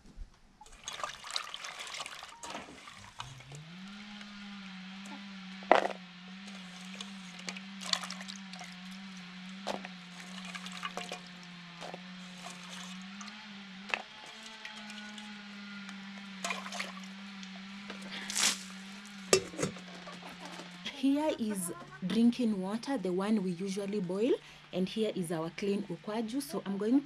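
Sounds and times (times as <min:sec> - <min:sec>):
steady low hum: 0:02.4 - 0:27.0.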